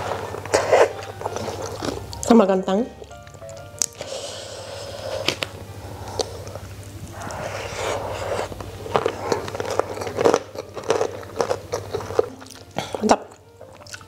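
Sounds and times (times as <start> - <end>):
person chewing: 0.0 - 2.3, 3.1 - 14.0.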